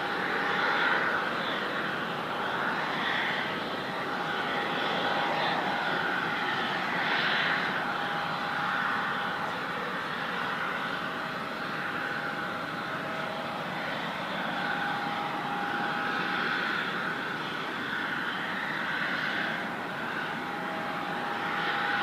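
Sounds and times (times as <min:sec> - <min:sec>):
jet engines whining: 0:00.0 - 0:22.0.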